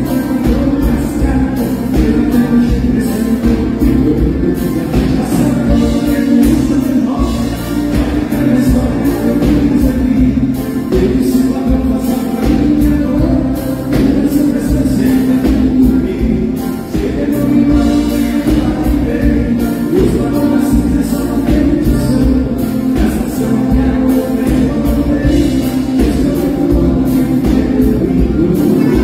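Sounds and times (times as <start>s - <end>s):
drum kit: 0.0s - 29.0s
electric guitar: 0.0s - 29.0s
person singing: 0.0s - 29.0s
piano accordion melody: 0.0s - 29.0s.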